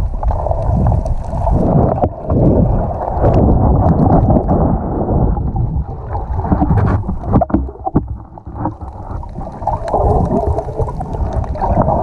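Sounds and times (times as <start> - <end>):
muffled underwater water rushing: 0.0 - 12.0.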